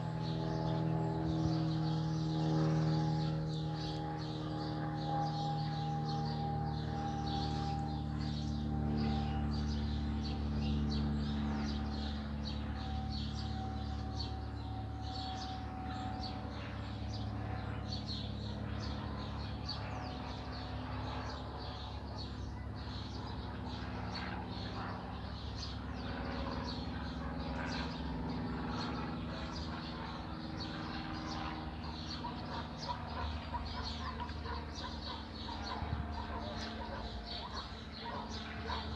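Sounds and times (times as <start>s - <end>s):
airplane engine and propeller droning: 0.0s - 38.9s
small birds chirping: 0.0s - 38.9s.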